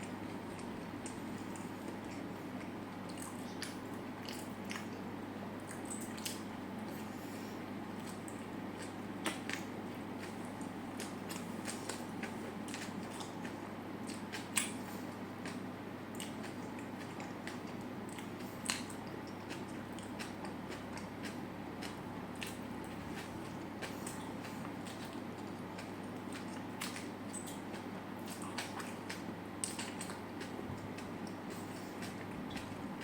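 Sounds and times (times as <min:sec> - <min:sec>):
chewing and biting food: 0:00.0 - 0:33.0.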